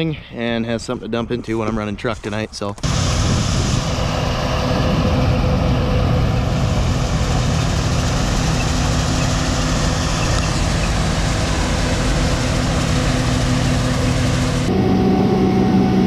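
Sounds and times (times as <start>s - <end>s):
diesel engine running: 2.8s - 16.0s.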